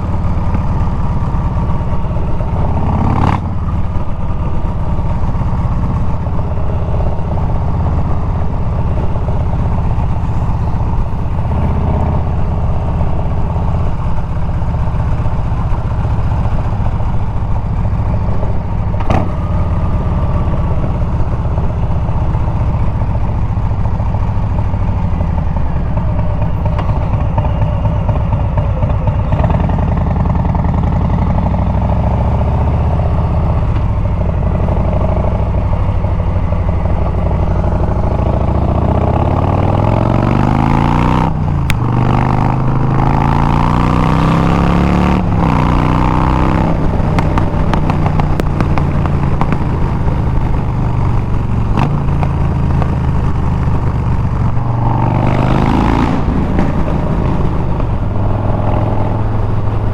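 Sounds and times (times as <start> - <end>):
motorcycle engine riding: 0.0 - 59.9.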